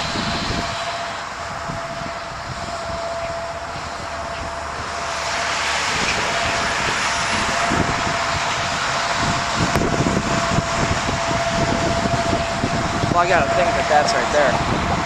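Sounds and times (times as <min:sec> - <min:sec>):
faint high whine: 0:00.0 - 0:15.0
wind buffeting microphone: 0:00.0 - 0:15.0.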